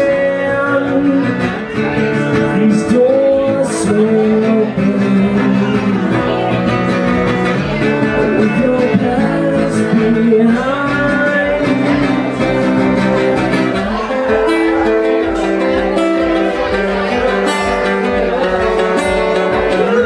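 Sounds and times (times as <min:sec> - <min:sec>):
man singing: 0:00.0 - 0:20.0
strummed acoustic guitars: 0:00.0 - 0:20.0.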